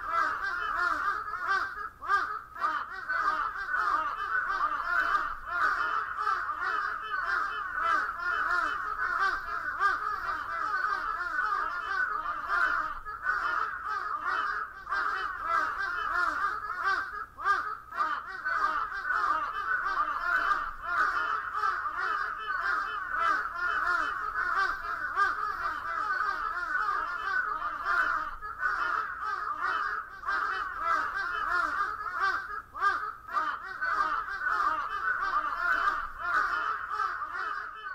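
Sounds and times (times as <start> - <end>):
crows cawing: 0.0 - 37.9.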